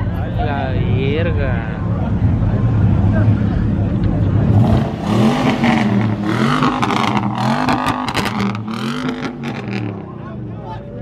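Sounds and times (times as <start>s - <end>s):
car engine revving: 1.5s - 10.5s.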